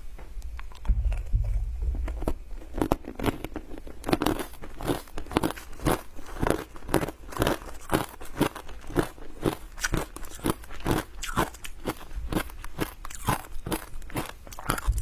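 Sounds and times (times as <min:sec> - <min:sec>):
person crunching ice with teeth: 0:02.1 - 0:15.0.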